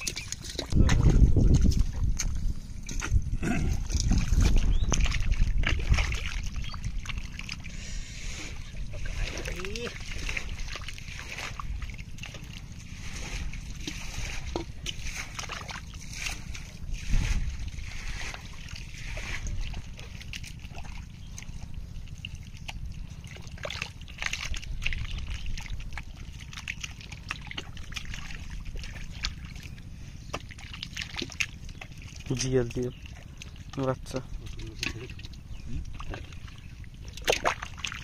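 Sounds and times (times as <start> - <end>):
hands squelching through wet mud: 0.0 - 38.0
steady low rumble: 0.0 - 38.0
water splashes: 0.0 - 38.0.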